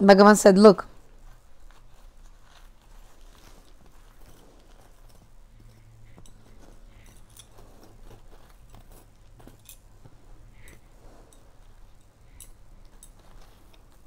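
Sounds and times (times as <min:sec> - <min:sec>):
faint low hum: 0:00.0 - 0:14.0
small clicks and crackles: 0:00.9 - 0:14.0.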